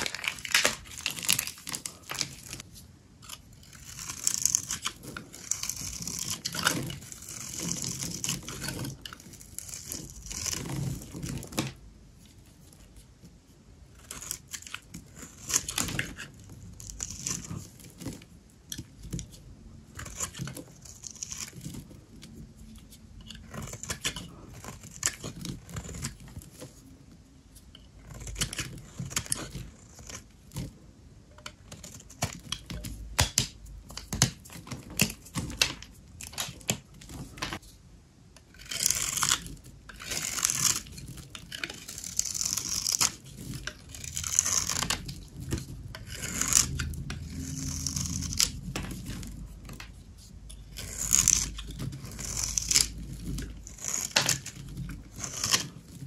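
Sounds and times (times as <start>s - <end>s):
blade scraping crumbling soap: 0.0s - 30.8s, 31.4s - 37.7s, 38.4s - 56.0s.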